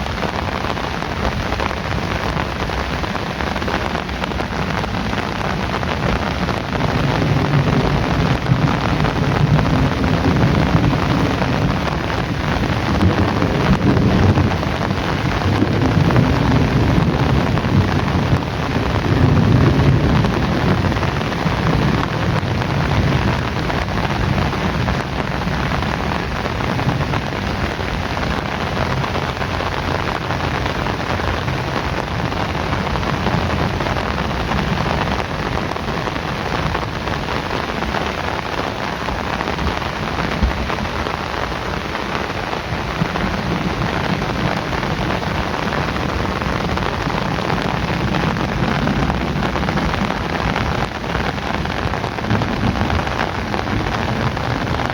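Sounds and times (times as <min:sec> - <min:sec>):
heavy rain pouring: 0:00.0 - 0:54.9
low rumble of thunder: 0:01.2 - 0:54.9.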